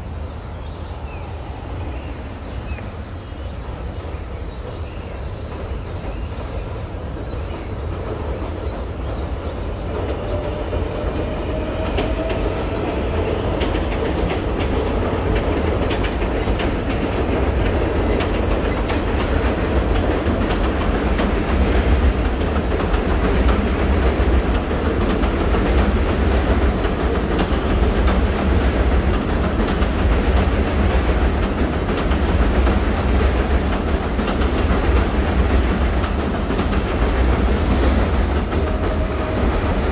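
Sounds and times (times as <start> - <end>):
train rumbling on elevated track: 0.0 - 39.9.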